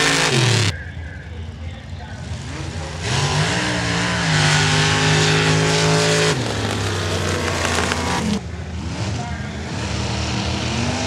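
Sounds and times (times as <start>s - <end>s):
off-road vehicle engine revving: 0.0s - 1.2s, 2.0s - 11.0s.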